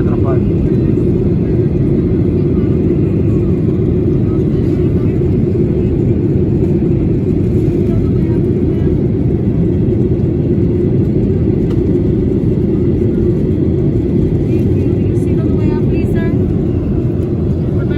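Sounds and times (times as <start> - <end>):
airplane cabin roar: 0.0 - 17.9.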